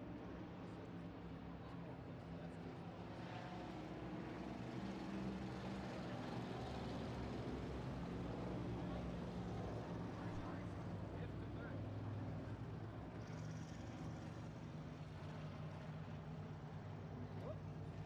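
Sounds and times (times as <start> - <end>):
race car engines droning: 1.6 - 18.0.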